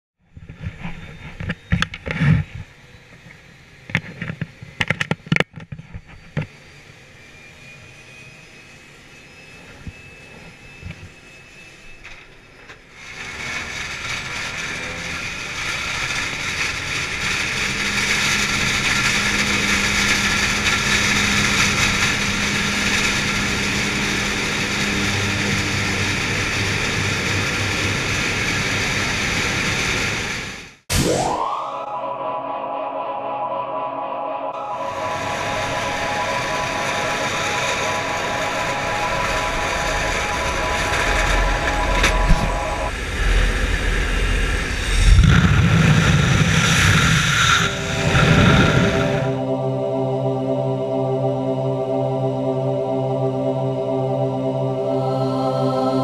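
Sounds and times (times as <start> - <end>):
aircraft engine and propeller: 0.3 - 30.9, 34.5 - 56.0.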